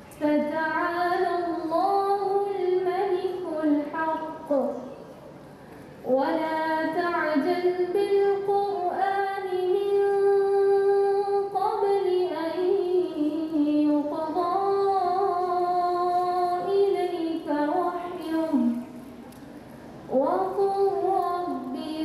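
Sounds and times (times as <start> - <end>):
woman chanting into a microphone: 0.1 - 5.0, 6.0 - 18.9, 20.1 - 22.0.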